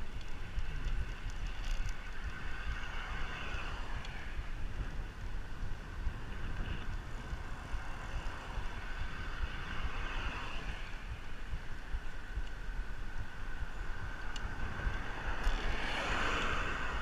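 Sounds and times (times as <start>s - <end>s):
bicycle tyre road noise: 0.0s - 17.0s
wind rumble on microphone: 0.0s - 17.0s.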